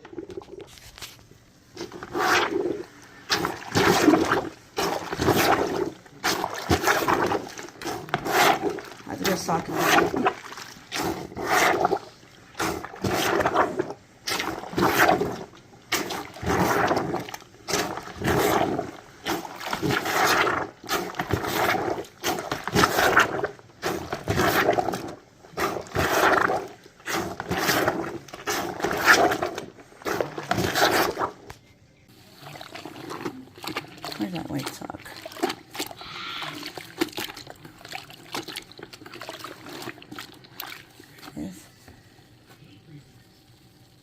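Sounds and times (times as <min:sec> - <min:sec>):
laundry plunger sloshing in water: 0:00.0 - 0:31.5, 0:32.1 - 0:41.6.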